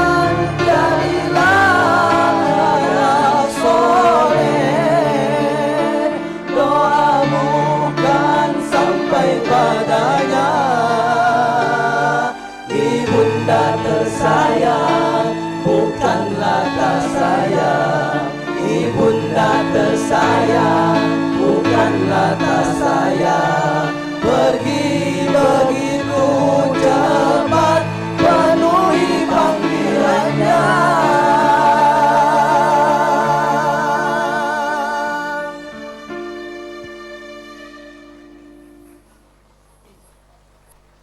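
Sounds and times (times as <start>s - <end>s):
choir-like singing: 0.0s - 38.1s
sustained chords: 0.0s - 39.6s.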